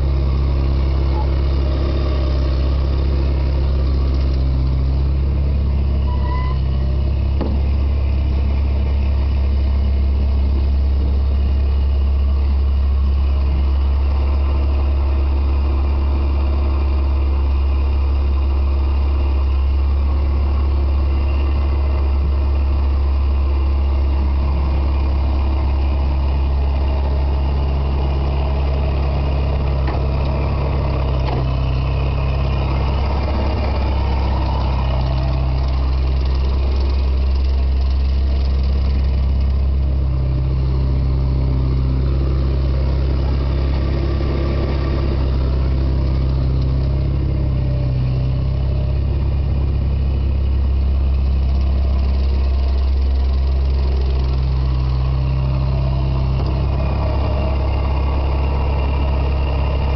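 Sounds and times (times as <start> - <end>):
loader engine humming: 0.0 - 59.9.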